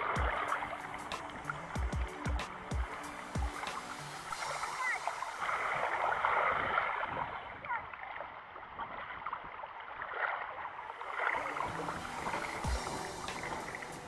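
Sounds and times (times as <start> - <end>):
water lapping at shore: 0.0 - 14.0.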